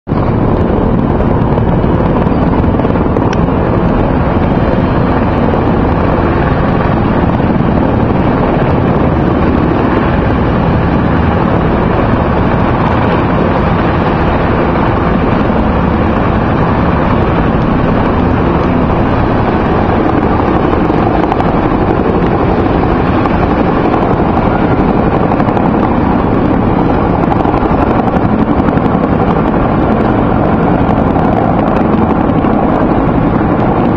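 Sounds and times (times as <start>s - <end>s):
helicopters droning overhead: 0.0s - 33.9s.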